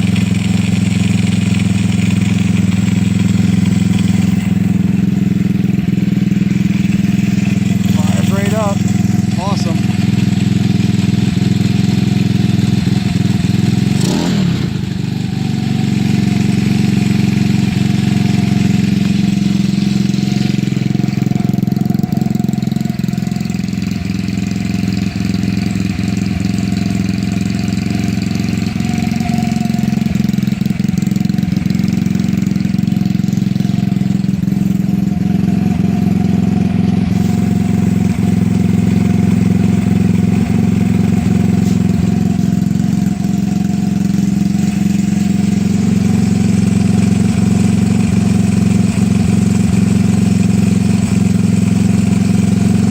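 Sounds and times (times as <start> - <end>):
scooter engine idling: 0.0 - 52.9.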